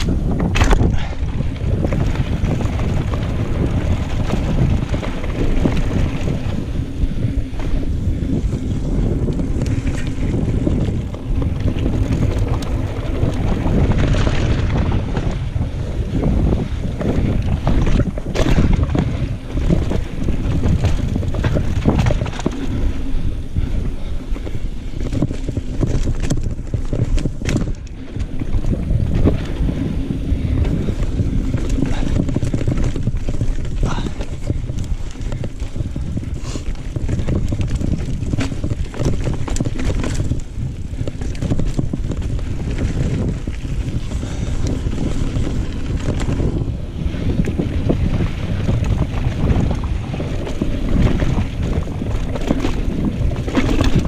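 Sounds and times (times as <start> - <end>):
bike knocks and rattles: 0.0 - 54.0
tyre rumble: 0.0 - 54.0
wind on microphone: 0.0 - 54.0.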